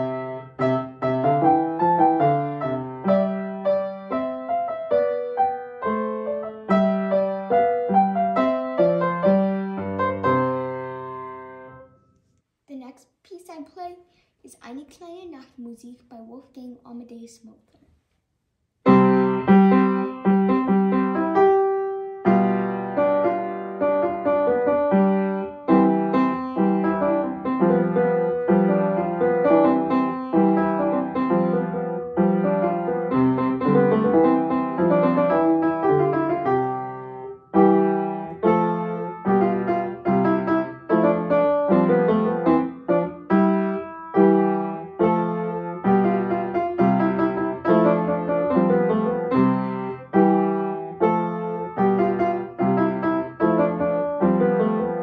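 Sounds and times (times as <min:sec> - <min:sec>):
classical piano piece: 0:00.0 - 0:12.0, 0:18.8 - 0:55.0.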